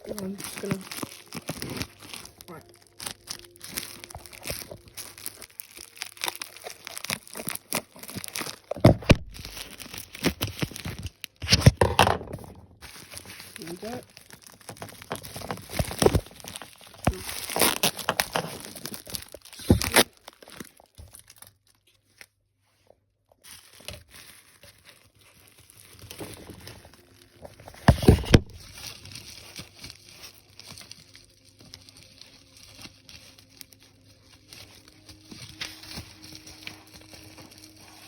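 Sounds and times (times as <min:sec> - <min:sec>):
packaging crinkling and tearing: 0:00.0 - 0:22.4, 0:23.2 - 0:38.0.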